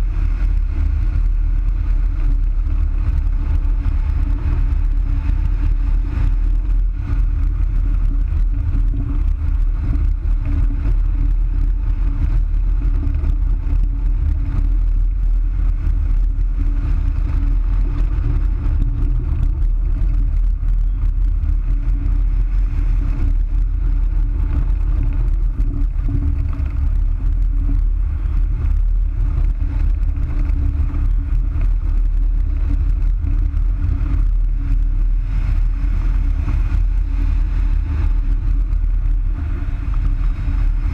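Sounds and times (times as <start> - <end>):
wind rushing over camera: 0.0 - 40.9.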